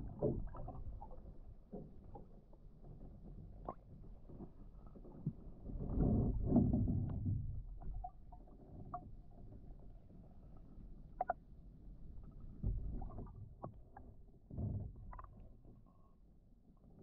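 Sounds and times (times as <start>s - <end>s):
paddle stroke heard underwater: 0.0s - 15.7s.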